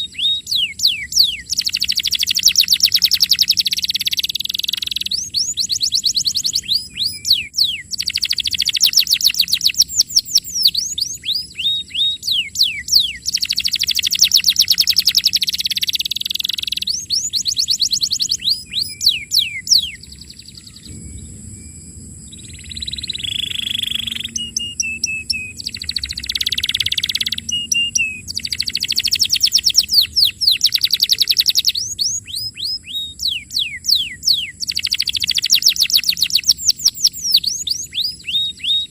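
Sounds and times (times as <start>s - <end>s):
canary singing fast trills: 0.0s - 21.4s, 22.3s - 38.9s.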